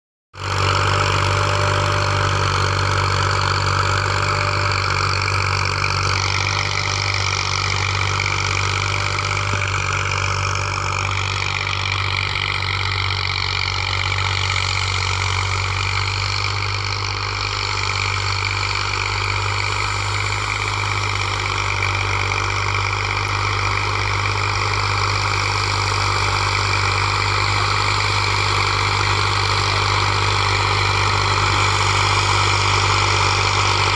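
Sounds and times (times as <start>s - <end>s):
tractor diesel engine idling: 0.4s - 33.9s.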